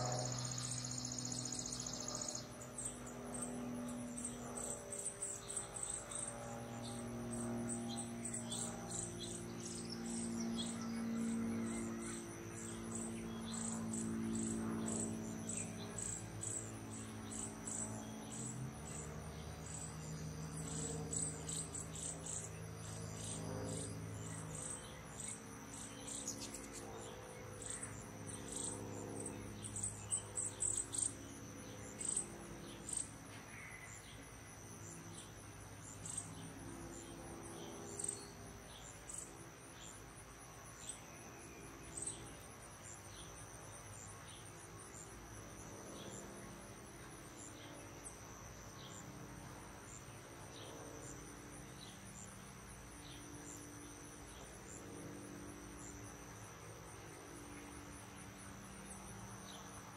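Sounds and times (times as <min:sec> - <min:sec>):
insects trilling and chirping: 0:00.0 - 0:59.9
low steady drone: 0:00.0 - 0:59.9.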